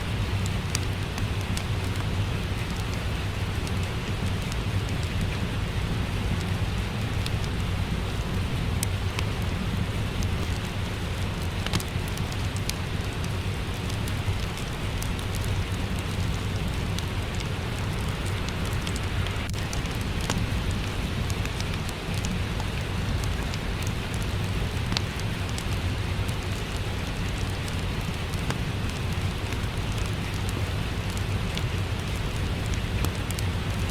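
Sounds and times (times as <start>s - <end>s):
steady rain falling: 0.0s - 33.9s
wood fire crackling: 0.0s - 33.9s.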